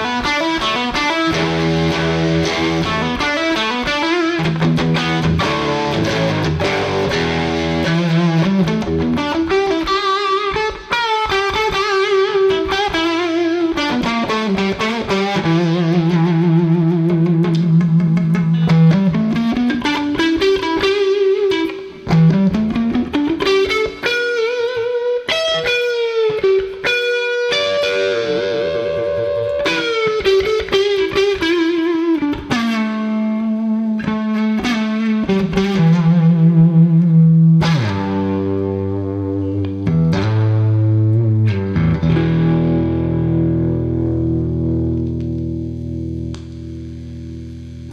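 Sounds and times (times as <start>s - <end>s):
electric guitar melody: 0.0s - 47.9s.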